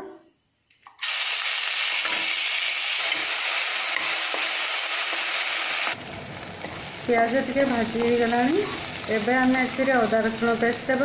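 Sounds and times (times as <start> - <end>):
onion sizzling in hot fat: 0.9 - 11.0.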